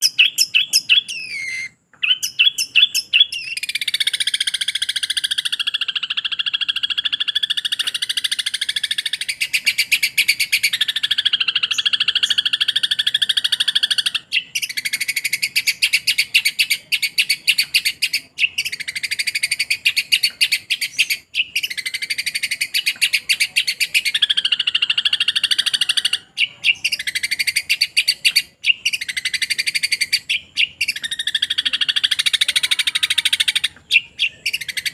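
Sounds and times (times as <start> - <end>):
bird chattering song: 0.0 - 34.9.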